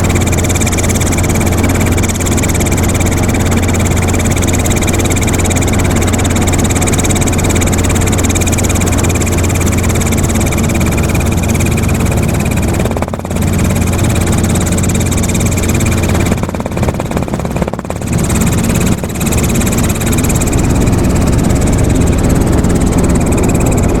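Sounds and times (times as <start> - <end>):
helicopter engine and rotor drone: 0.0 - 24.0
high steady whines: 0.0 - 24.0.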